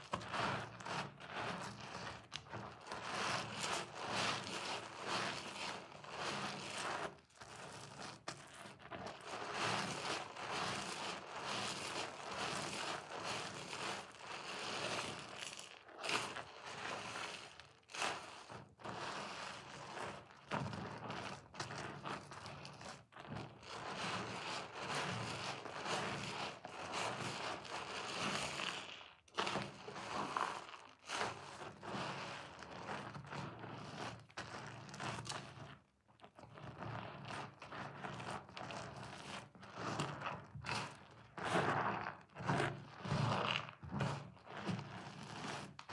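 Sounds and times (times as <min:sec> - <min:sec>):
soap and sponge squelching: 0:00.0 - 0:45.9.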